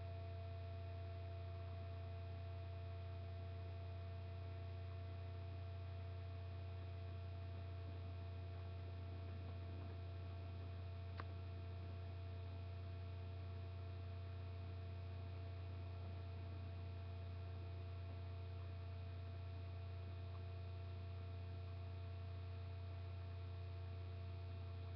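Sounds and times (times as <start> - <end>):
low electrical hum: 0.0 - 24.9.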